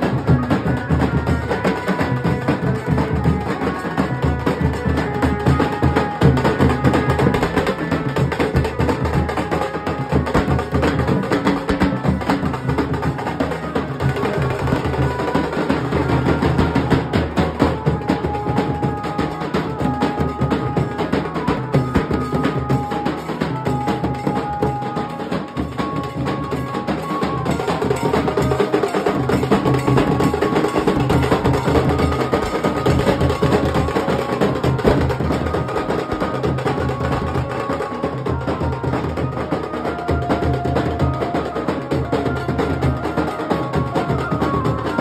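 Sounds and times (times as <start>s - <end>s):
barrel drums beaten with sticks: 0.0s - 39.0s.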